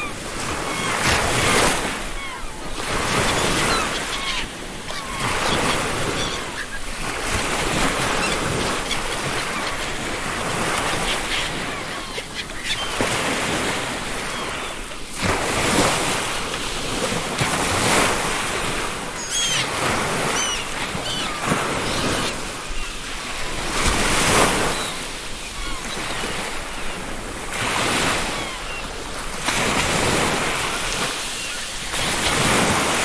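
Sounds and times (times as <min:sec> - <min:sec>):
gull calls: 0:00.0 - 0:15.0, 0:18.6 - 0:29.0, 0:30.1 - 0:33.0
ocean surf breaking on a beach: 0:00.0 - 0:33.0.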